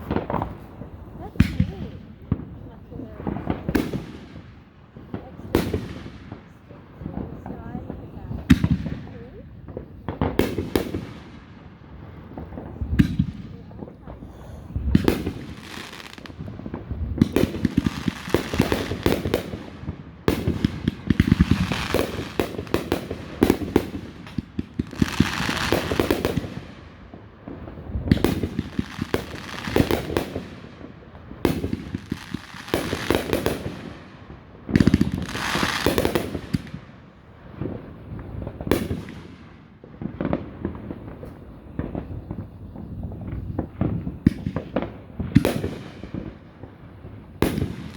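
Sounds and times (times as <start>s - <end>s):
firework booms: 0.0s - 47.9s
firework crackling: 0.0s - 47.9s.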